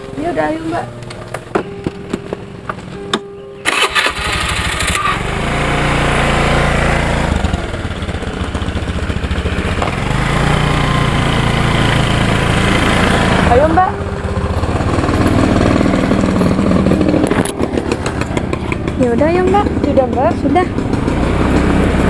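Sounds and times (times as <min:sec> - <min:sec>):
scooter engine starting and running: 0:00.0 - 0:22.0.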